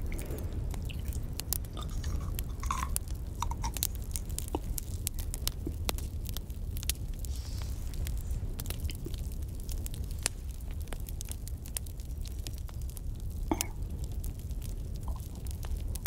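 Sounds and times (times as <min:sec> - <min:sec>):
campfire crackling and popping: 0:00.0 - 0:16.0
steady low rumble: 0:00.0 - 0:16.0.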